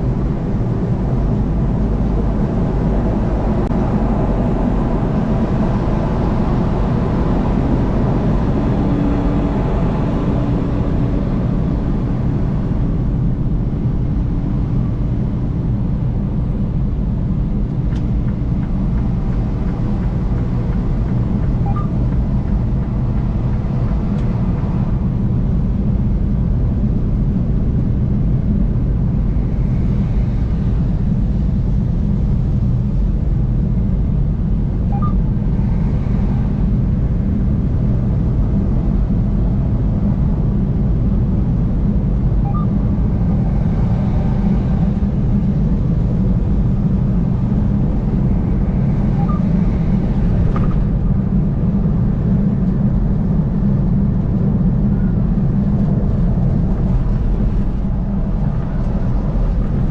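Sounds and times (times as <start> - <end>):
car driving on highway: 0.0 - 59.9.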